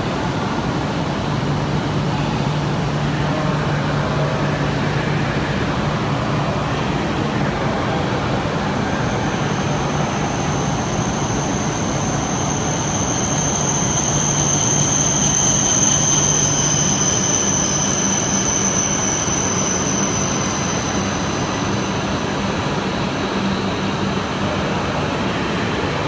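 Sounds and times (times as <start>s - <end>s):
train high whine: 0.0s - 26.0s
train low hum: 0.0s - 26.0s.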